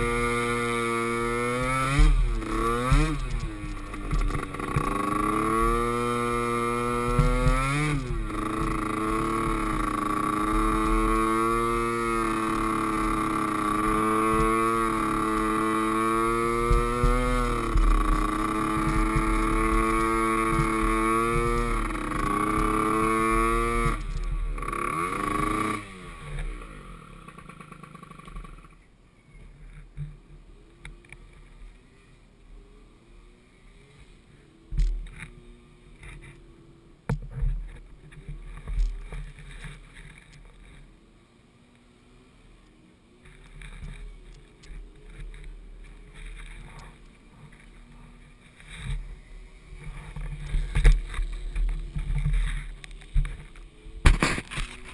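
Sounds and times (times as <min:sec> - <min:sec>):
small atv engine revving: 0:00.0 - 0:54.9.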